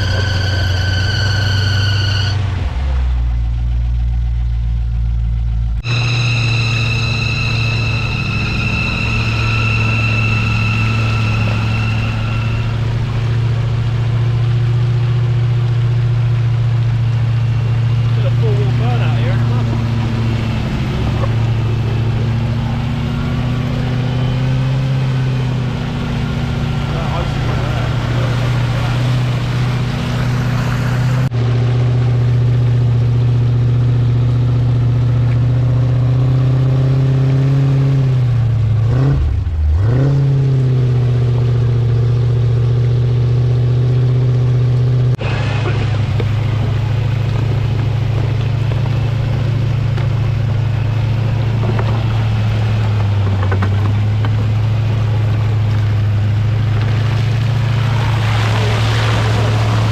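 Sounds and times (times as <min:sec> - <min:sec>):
engine running under load: 0:00.0 - 0:59.9.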